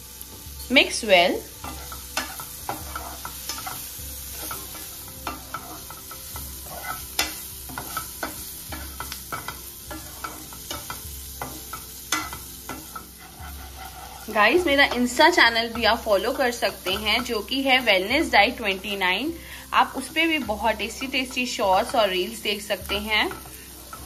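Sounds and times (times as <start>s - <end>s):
food sizzling in a frying pan: 0.0s - 24.0s
spatula scraping a pan: 1.4s - 24.0s.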